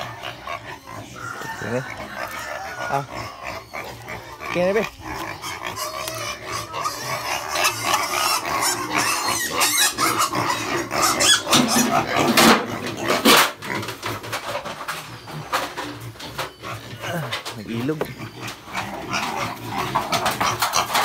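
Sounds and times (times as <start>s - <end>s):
piglets squealing and grunting: 0.0s - 21.0s.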